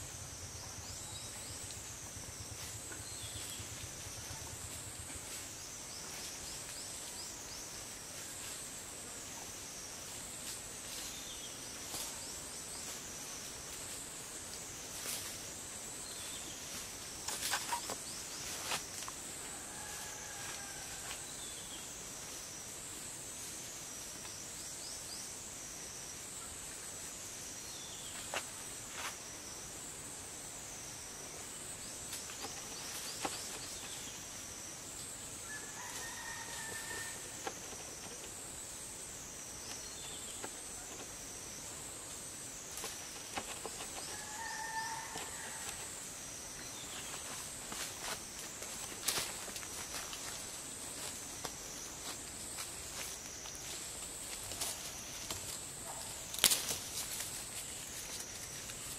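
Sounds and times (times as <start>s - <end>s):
insect chorus: 0.0s - 58.9s.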